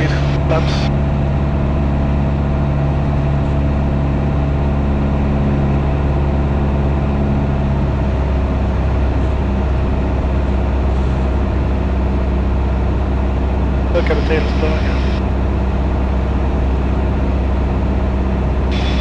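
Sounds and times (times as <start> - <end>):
propeller aircraft engine droning: 0.0 - 19.0.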